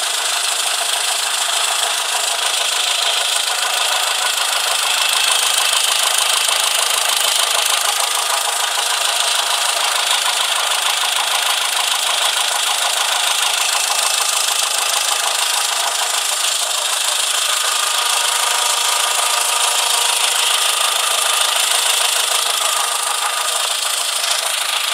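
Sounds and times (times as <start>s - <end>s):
engine knocking: 0.0s - 24.9s.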